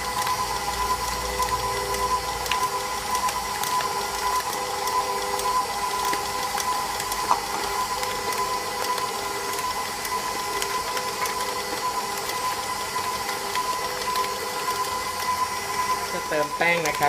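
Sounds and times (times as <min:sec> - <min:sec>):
electric mixer running: 0:00.0 - 0:17.0.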